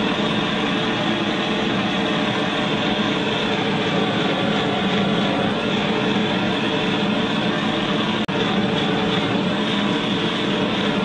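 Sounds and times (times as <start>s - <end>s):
blowtorch flame rushing: 0.0s - 11.0s.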